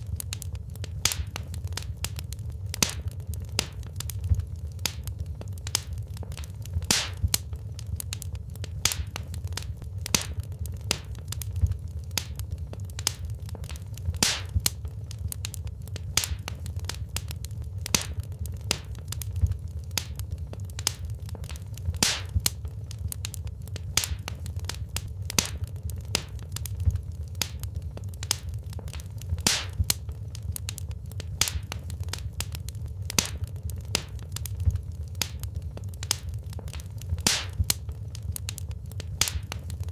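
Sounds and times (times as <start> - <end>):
low steady rumble: 0.0 - 39.9
sharp pops and snaps: 0.0 - 39.9
wood fire crackling: 0.0 - 39.9.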